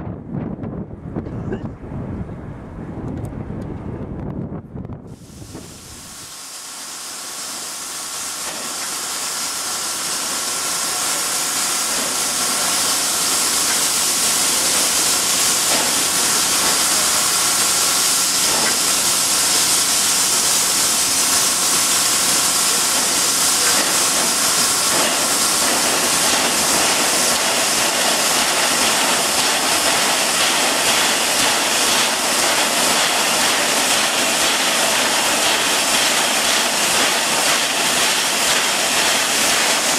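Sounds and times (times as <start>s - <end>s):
steam locomotive venting steam: 5.1s - 39.9s.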